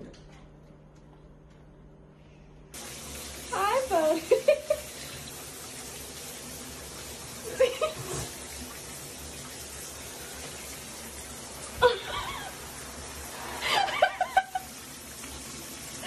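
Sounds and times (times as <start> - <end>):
shower water running: 2.7 - 16.0.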